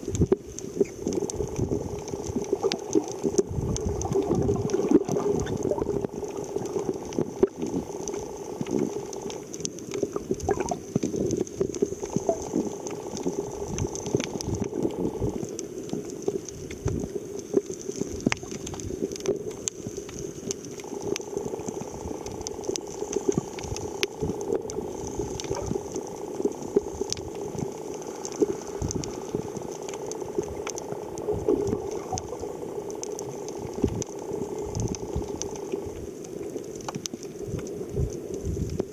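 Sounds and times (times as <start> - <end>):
steady hum: 0.0 - 17.1, 18.3 - 36.9
muffled underwater noise: 0.0 - 38.9
small underwater clicks and crackles: 0.0 - 38.9.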